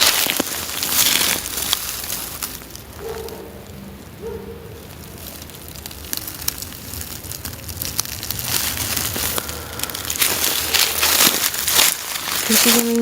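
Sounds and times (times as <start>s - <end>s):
dry leaves and twigs crackling: 0.0s - 13.0s.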